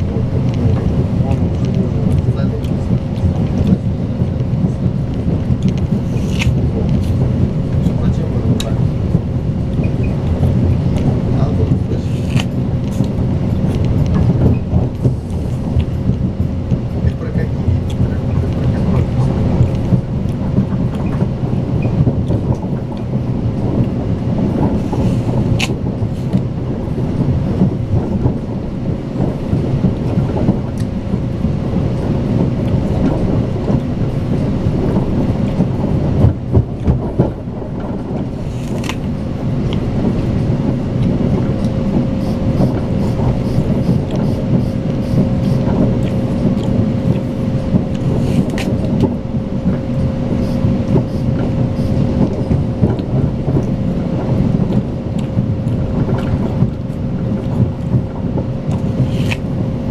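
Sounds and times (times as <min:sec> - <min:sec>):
constant hum: 0:00.0 - 0:59.9
rumble of wheels on track: 0:00.0 - 0:59.9.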